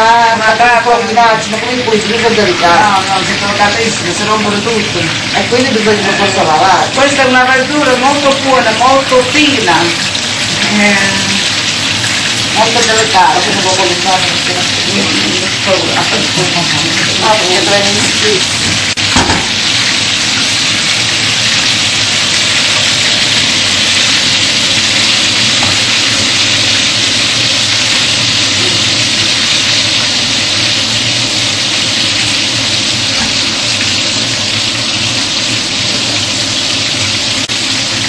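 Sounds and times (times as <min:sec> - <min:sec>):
food frying in oil: 0:00.0 - 0:38.0.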